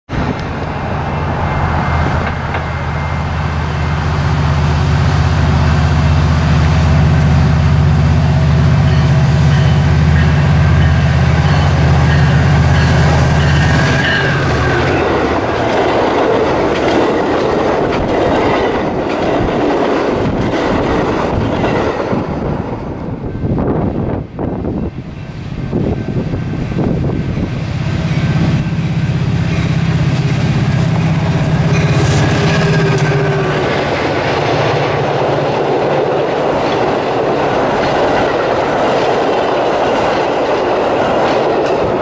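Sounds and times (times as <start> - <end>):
train wheels rolling past: 0.1 - 24.2, 24.8 - 42.0
diesel locomotive engine drone: 0.1 - 42.0.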